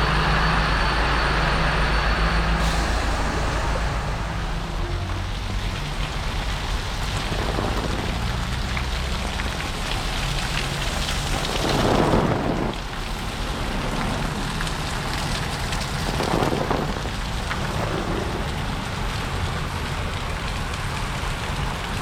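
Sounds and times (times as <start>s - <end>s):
rain hissing: 0.0s - 22.0s
vehicle engine rumbling: 0.0s - 22.0s.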